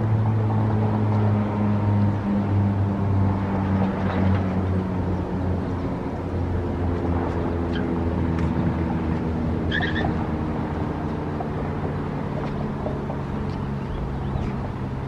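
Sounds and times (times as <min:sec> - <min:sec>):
traffic engines passing: 0:00.0 - 0:15.0.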